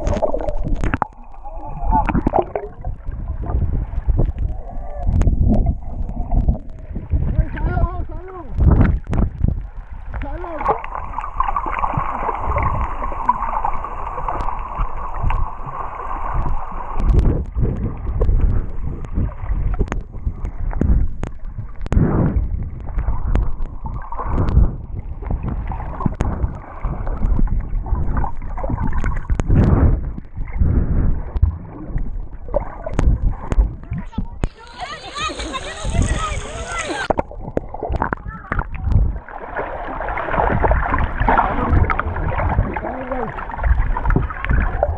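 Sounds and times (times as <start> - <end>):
low water surges: 0.0 - 44.9
muffled underwater gurgling: 0.0 - 44.9.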